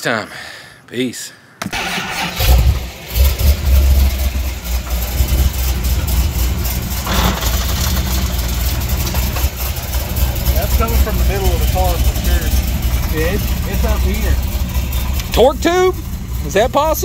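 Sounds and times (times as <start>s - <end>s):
noise from middle of car: 1.7s - 17.0s
car engine low drone: 2.3s - 17.0s.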